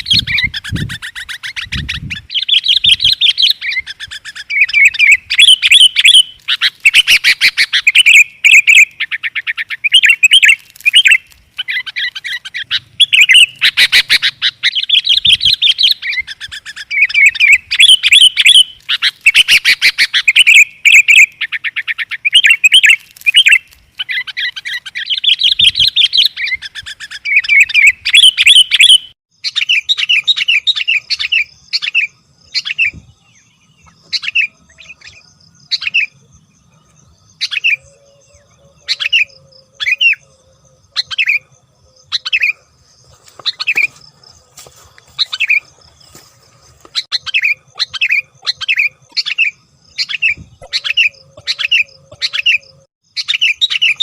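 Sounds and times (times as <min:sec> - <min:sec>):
bulbul calling: 0:00.0 - 0:54.0.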